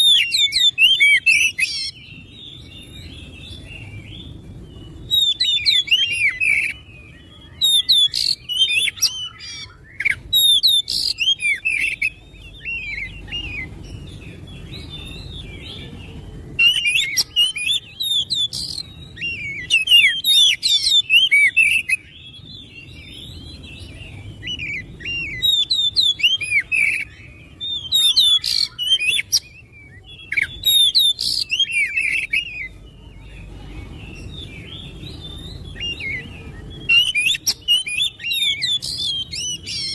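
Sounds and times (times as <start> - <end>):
bird whistles and chirps: 0.0 - 15.9, 16.6 - 32.8, 34.1 - 39.9.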